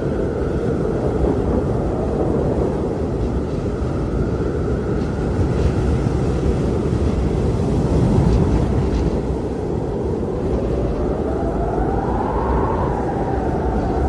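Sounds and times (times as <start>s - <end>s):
blizzard wind blowing hard: 0.0s - 14.0s
whistling howl of wind: 0.0s - 14.0s.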